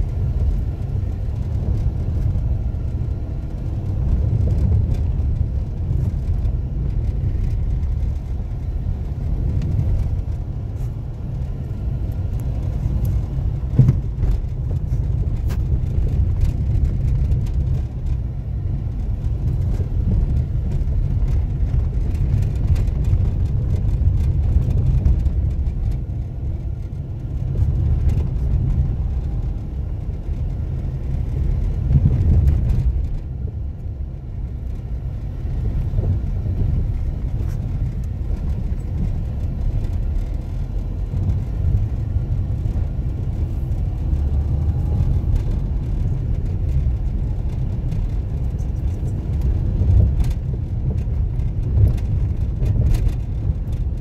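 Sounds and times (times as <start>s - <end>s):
vehicle engine and tyres rumbling: 0.0s - 54.0s.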